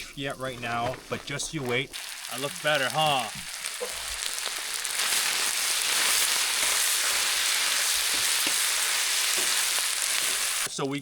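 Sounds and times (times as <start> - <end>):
meat sizzling: 0.0 - 10.7.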